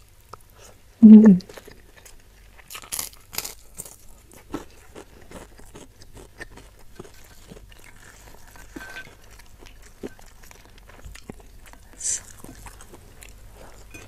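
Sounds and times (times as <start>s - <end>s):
chewing and soft crunching: 0.0s - 14.0s
fingers scraping and rustling crackers: 1.5s - 14.0s.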